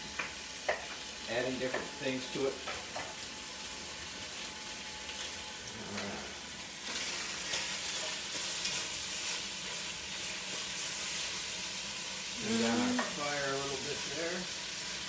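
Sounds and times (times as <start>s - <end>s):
ham sizzling in a hot pan: 0.0s - 15.0s.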